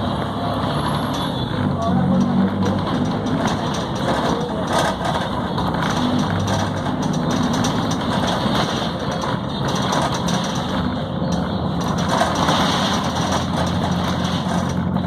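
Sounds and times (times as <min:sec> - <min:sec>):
bus diesel engine running: 0:00.0 - 0:15.0
road noise: 0:00.0 - 0:15.0.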